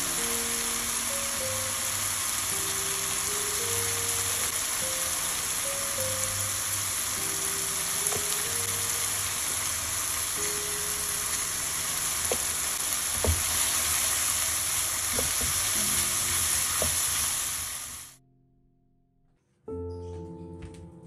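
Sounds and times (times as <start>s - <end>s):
chili paste sizzling in oil: 0.0s - 18.2s.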